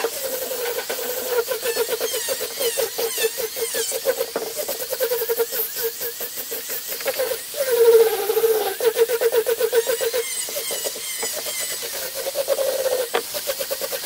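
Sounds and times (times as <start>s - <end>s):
angle grinder sanding wood: 0.0s - 14.0s.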